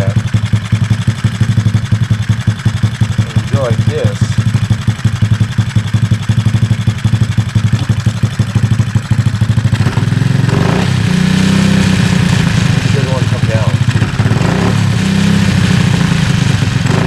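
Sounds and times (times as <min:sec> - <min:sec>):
motorbike engine idling and revving: 0:00.0 - 0:17.0.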